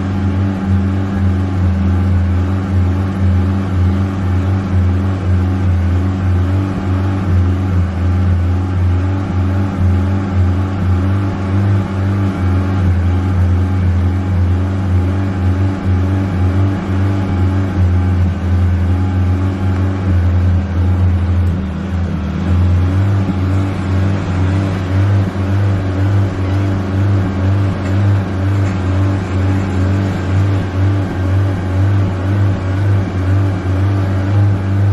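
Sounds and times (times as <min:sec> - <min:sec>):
car engine droning: 0:00.0 - 0:34.9.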